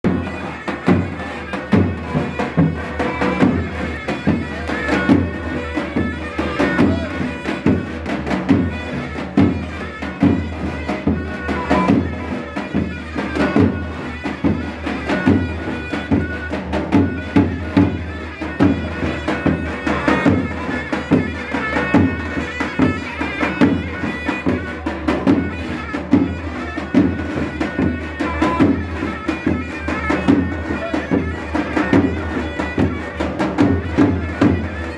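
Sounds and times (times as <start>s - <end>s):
reedy wind instrument melody: 0.0s - 34.9s
steady drum beat: 0.0s - 34.9s.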